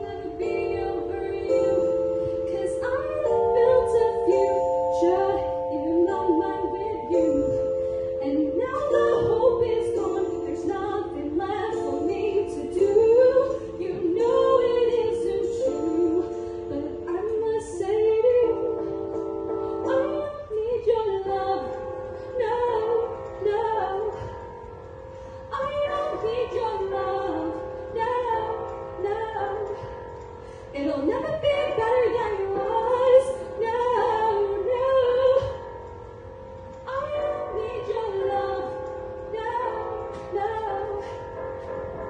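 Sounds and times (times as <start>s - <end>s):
long held accompaniment chords: 0.0s - 42.0s
woman singing through speakers: 0.0s - 42.0s.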